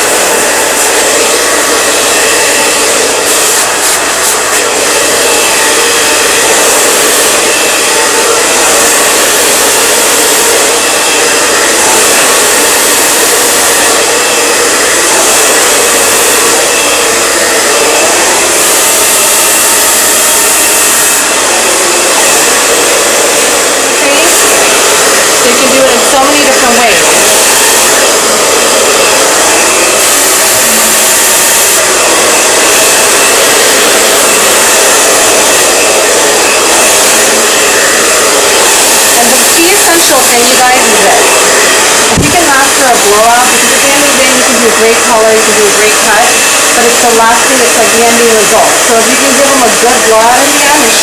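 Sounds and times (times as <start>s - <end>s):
hair dryer running: 0.0s - 51.0s.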